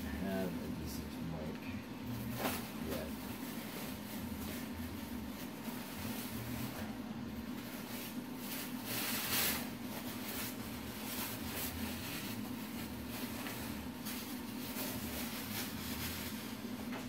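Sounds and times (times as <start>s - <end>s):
plastic wrap crinkling: 2.2s - 17.0s.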